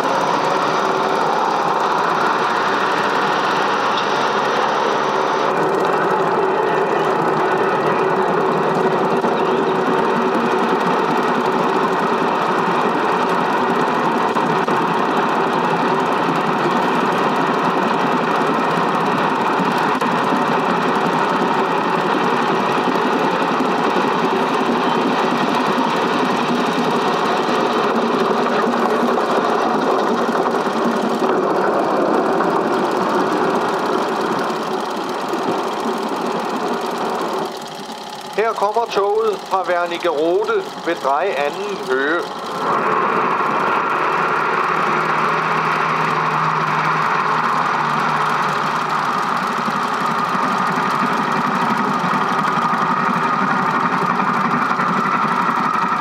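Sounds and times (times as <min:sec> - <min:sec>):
film projector clatter: 0:00.0 - 0:56.0.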